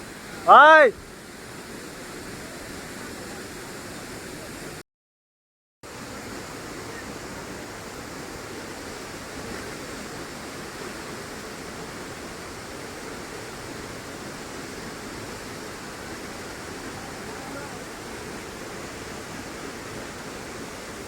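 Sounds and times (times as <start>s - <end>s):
waterfall rushing: 0.0s - 4.8s, 5.9s - 21.0s.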